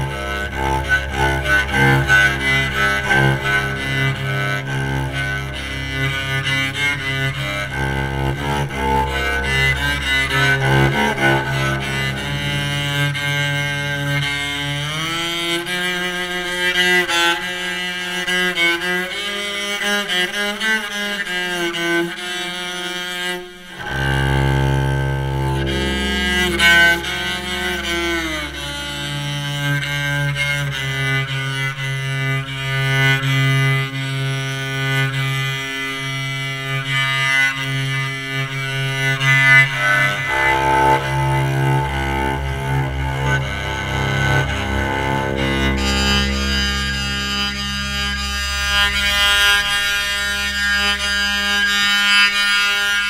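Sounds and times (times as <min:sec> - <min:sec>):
electric cello bowed melody: 0:00.0 - 0:53.0.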